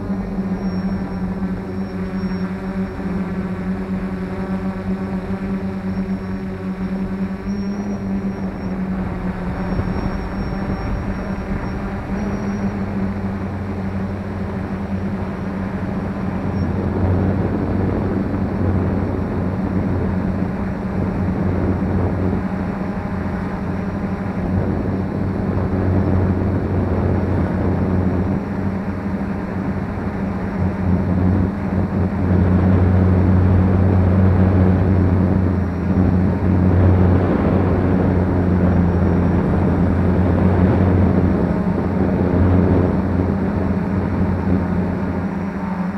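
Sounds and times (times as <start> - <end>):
quadcopter motors droning: 0.0 - 45.9.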